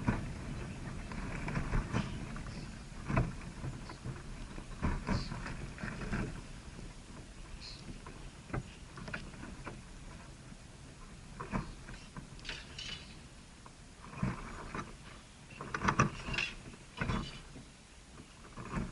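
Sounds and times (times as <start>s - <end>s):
rustling: 0.0s - 18.9s.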